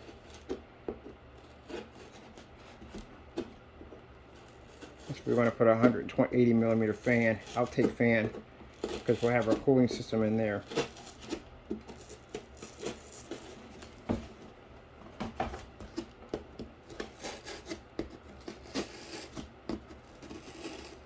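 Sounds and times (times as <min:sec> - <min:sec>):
scraping and rubbing on cardboard: 0:00.0 - 0:14.5, 0:15.2 - 0:21.0.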